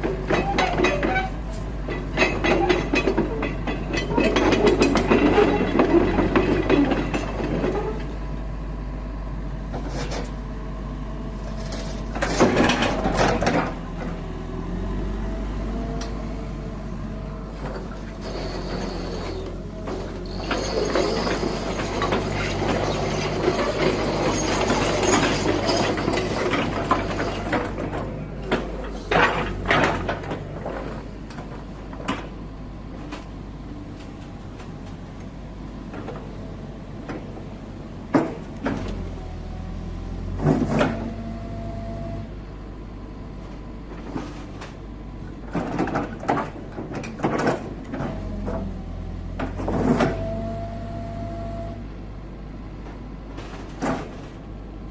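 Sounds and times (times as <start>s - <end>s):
excavator clunks and knocks: 0.0s - 8.3s, 9.6s - 10.5s, 11.4s - 42.3s, 43.4s - 51.0s, 52.7s - 54.6s
excavator diesel engine hum: 0.0s - 54.9s.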